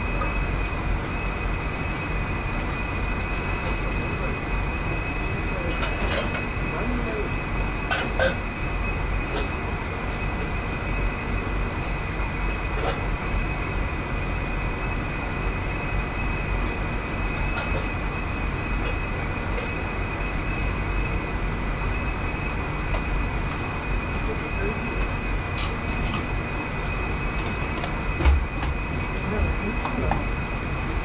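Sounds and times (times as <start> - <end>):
kitchen ventilation roar: 0.0 - 31.0.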